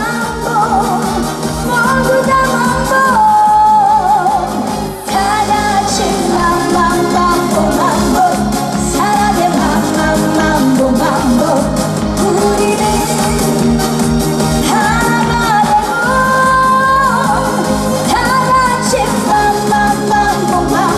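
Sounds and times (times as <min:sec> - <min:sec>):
woman singing with vibrato: 0:00.0 - 0:13.8, 0:14.5 - 0:20.9
band backing music: 0:00.0 - 0:20.9.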